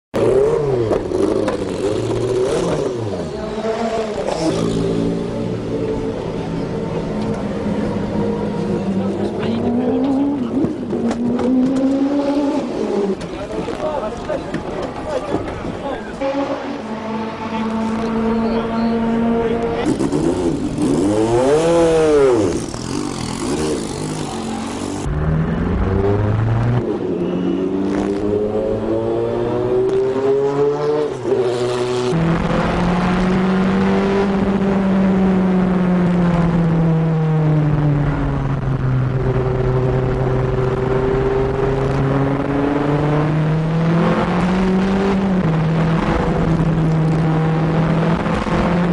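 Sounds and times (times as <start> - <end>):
race car engine revving: 0.2 - 48.9.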